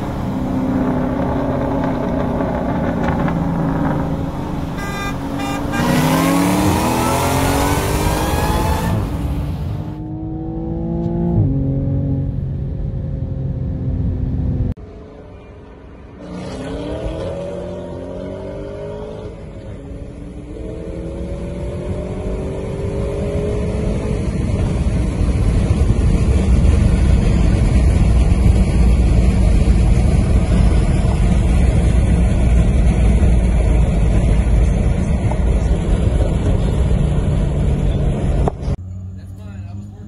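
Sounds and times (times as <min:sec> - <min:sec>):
car engines accelerating hard: 0:00.0 - 0:15.4, 0:16.0 - 0:40.0.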